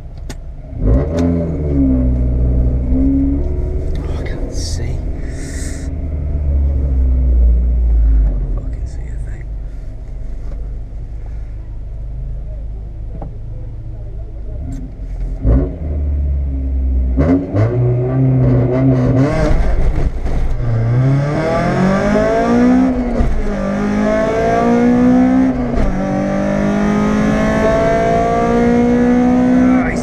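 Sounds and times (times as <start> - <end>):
car engine accelerating hard: 0.7 - 9.1, 14.0 - 30.0.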